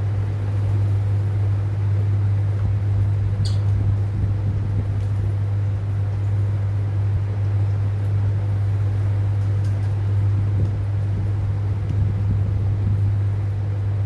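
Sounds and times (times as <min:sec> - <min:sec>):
low hum with hiss: 0:00.0 - 0:14.0.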